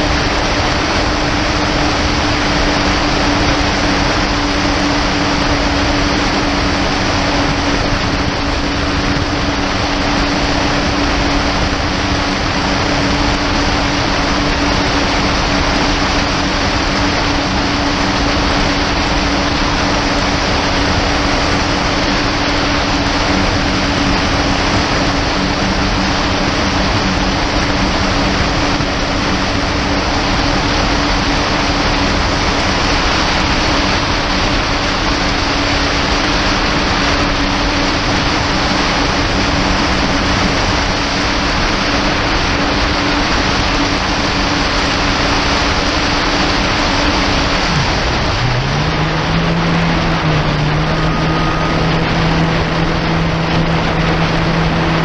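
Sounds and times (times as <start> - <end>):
jet ski engine humming: 0.0 - 55.0
rush of wind and water: 0.0 - 55.0.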